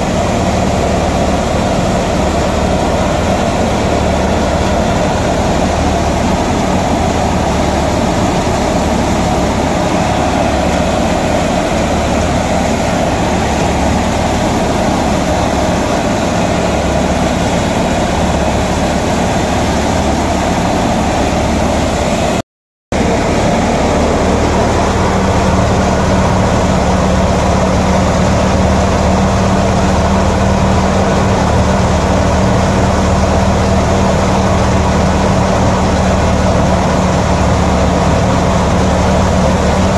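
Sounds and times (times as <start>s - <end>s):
thresher machine droning: 0.0s - 39.9s.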